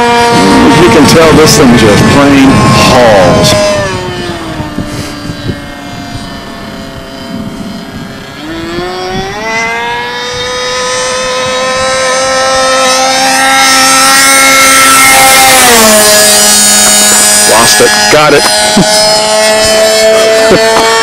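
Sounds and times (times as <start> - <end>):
model plane motor and propeller: 0.0 - 21.0.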